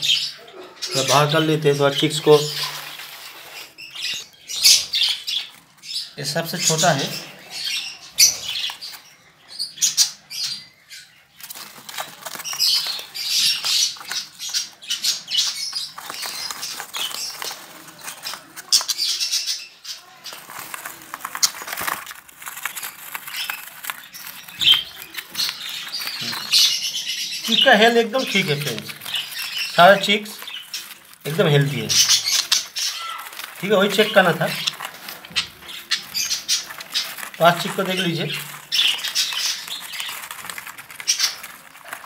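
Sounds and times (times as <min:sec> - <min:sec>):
wings flapping and rustling: 0:00.0 - 0:10.6, 0:11.2 - 0:42.0
budgerigars chattering and chirping: 0:00.0 - 0:11.3, 0:11.9 - 0:20.4, 0:22.5 - 0:41.9.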